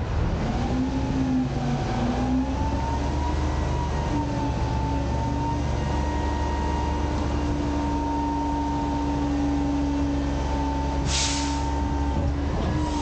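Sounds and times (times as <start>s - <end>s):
garbage truck engine rumble: 0.0s - 13.0s.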